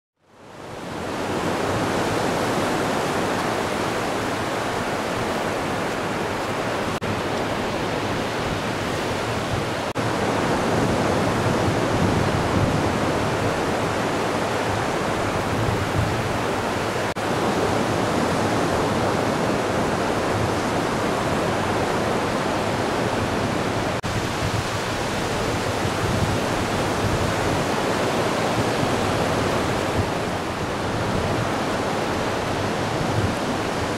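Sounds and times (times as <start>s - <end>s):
waves breaking on shore: 0.4s - 33.9s.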